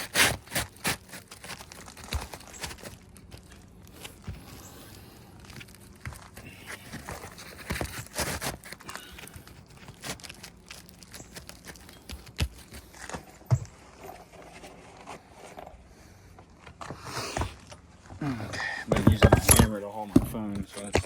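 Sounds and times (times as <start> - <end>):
scraping and rustling: 0.0 - 21.0.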